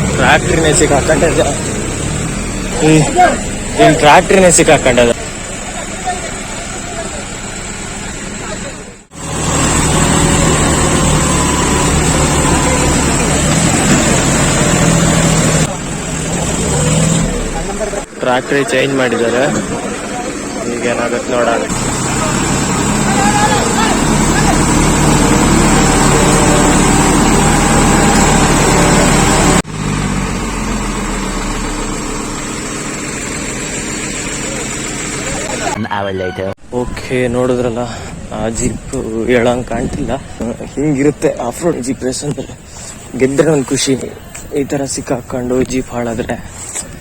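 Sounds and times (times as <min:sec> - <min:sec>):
vehicle engine running: 0:00.0 - 0:35.8, 0:36.7 - 0:47.0.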